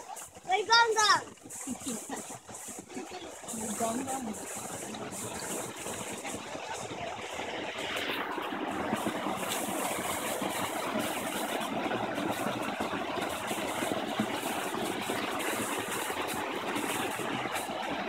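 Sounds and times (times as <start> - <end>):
creek water flowing over rocks: 0.0 - 18.0.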